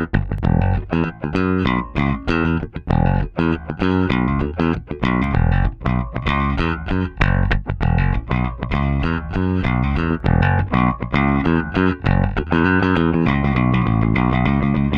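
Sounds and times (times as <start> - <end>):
electric bass guitar notes: 0.0 - 14.9.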